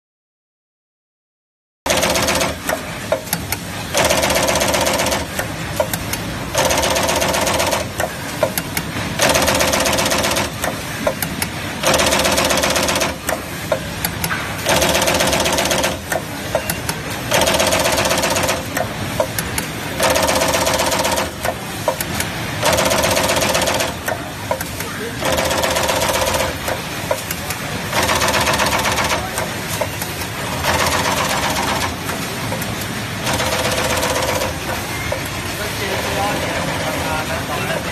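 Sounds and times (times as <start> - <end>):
sharp machine clicks: 1.9 - 37.1
crimping machine running: 1.9 - 37.9.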